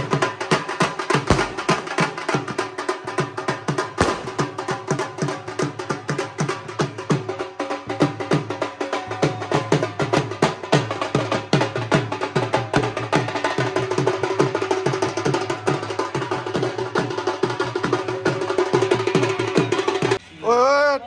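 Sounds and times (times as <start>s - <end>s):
drum played in fast rhythm: 0.0s - 20.2s.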